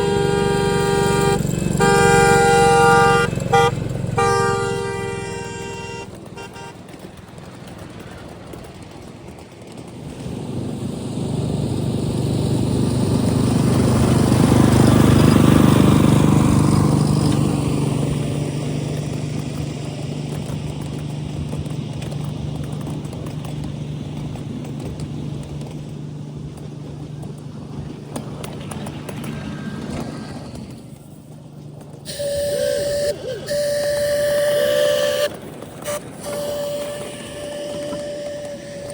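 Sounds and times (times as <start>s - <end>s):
miniature train passing: 0.0s - 38.9s.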